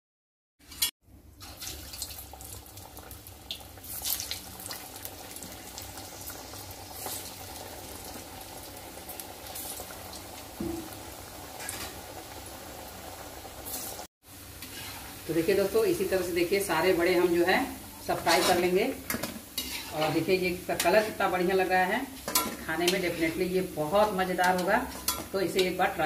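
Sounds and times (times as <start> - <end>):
food deep-frying in oil: 0.6 - 26.0.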